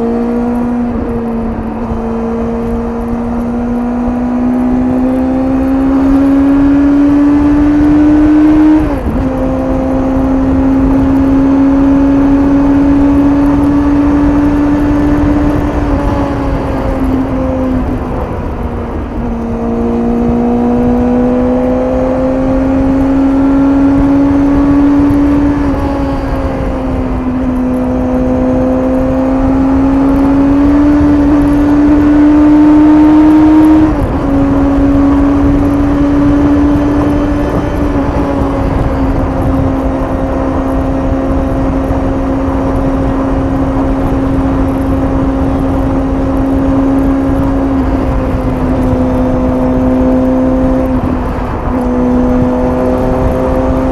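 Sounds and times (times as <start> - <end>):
motorcycle engine revving and shifting: 0.0 - 53.9
wind rushing: 0.0 - 53.9.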